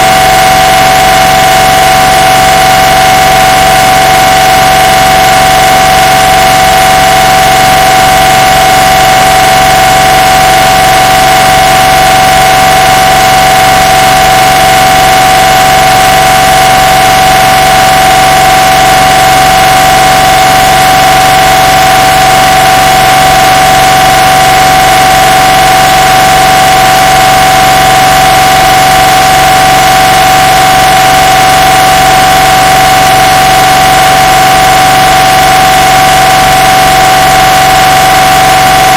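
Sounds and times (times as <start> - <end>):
mri scanner steady tone: 0.0 - 38.9.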